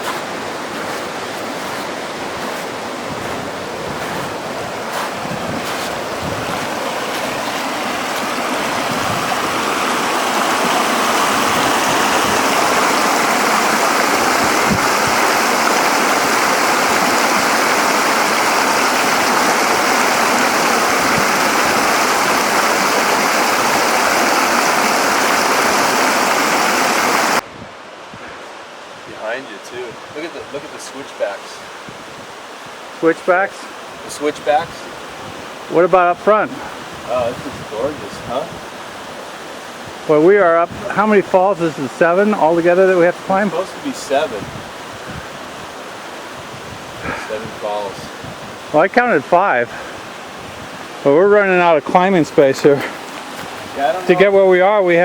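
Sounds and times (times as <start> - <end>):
waterfall roaring over rock: 0.0 - 27.4, 30.3 - 55.0.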